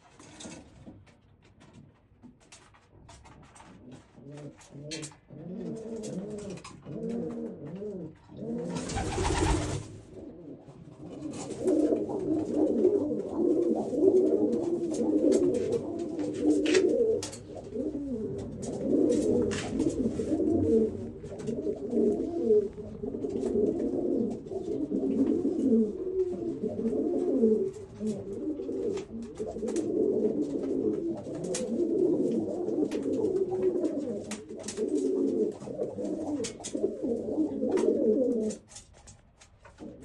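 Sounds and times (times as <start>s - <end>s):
pigeons cooing: 3.7s - 38.8s.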